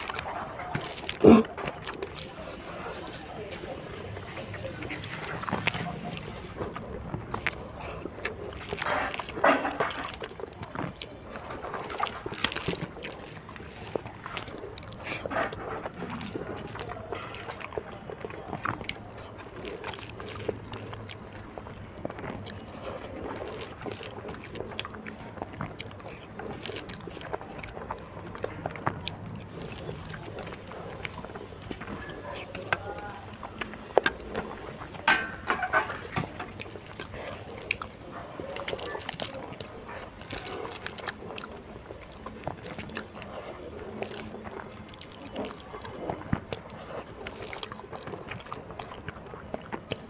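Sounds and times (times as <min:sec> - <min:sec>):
wet chewing: 0:00.0 - 0:50.0.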